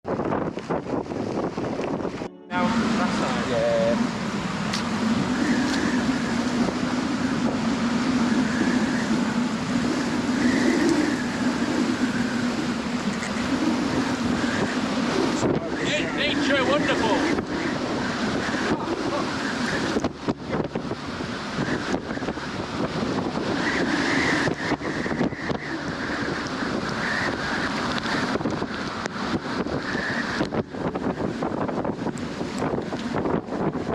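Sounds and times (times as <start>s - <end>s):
gusty wind howling: 0.0s - 33.9s.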